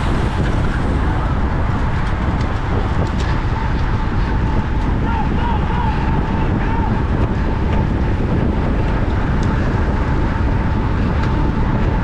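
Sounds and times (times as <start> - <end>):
road and tyre noise: 0.0 - 12.0
wind buffeting microphone: 0.0 - 12.0.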